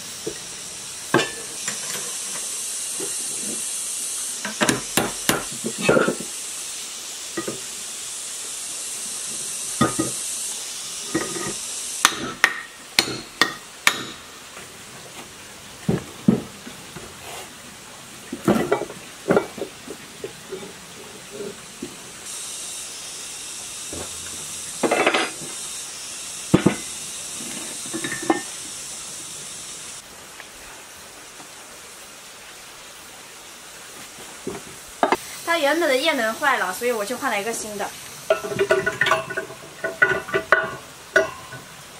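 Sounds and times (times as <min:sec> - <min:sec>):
steady hiss: 0:00.0 - 0:41.9.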